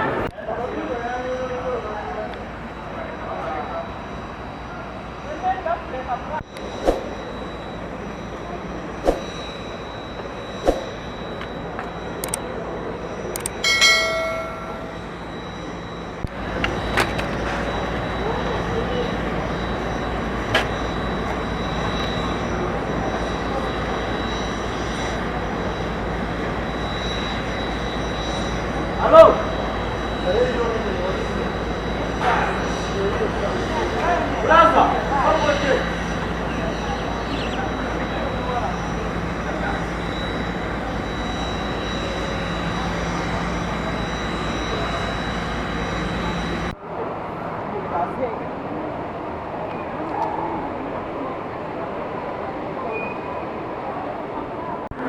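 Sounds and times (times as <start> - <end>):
high whine: 0.0 - 49.8
jet engine running: 0.0 - 50.0.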